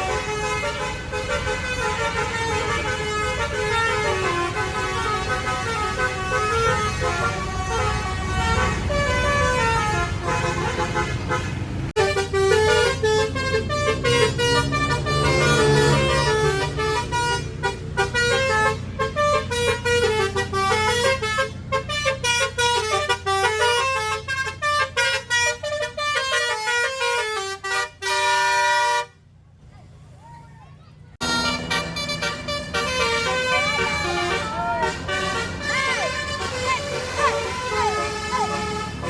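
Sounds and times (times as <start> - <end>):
bus musical horn melody: 0.0 - 29.4, 31.2 - 39.0
low engine rumble: 0.0 - 39.0.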